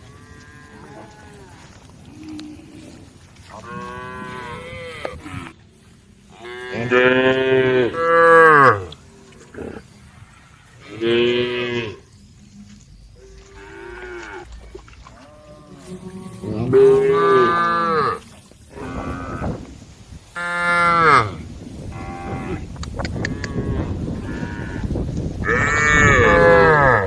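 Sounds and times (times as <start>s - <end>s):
cows mooing: 0.0s - 5.6s, 6.3s - 9.9s, 10.8s - 12.1s, 13.2s - 19.7s, 20.4s - 27.0s.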